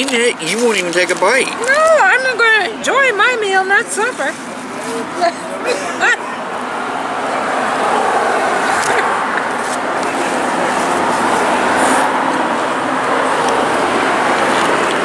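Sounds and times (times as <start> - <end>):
road traffic rushing by: 0.0 - 15.0.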